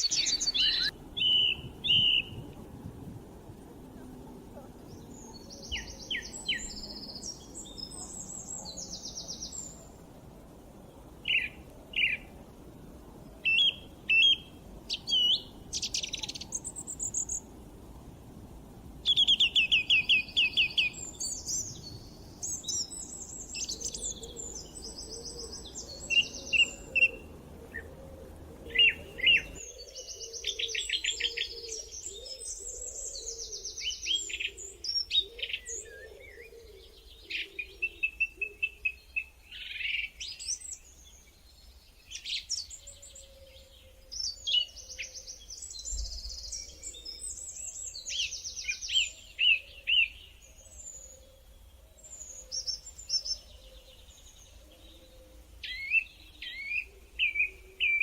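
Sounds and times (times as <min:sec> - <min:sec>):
low steady hiss: 0:00.0 - 0:58.0
songbirds singing: 0:00.0 - 0:58.0.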